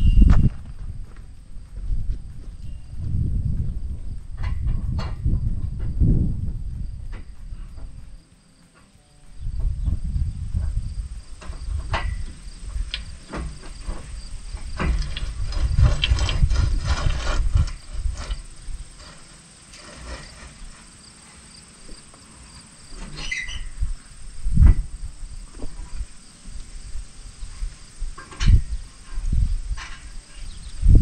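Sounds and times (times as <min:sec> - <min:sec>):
wind rumbling on microphone: 0:00.0 - 0:08.2, 0:09.2 - 0:21.0, 0:21.8 - 0:31.0
insects chirring: 0:00.0 - 0:31.0.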